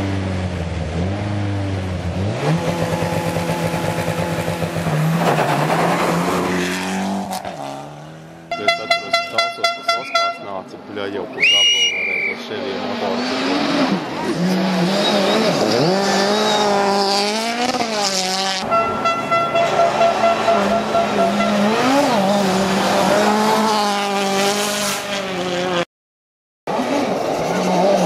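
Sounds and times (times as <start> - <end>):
rally car engine at full throttle: 0.0 - 25.8, 26.7 - 28.0.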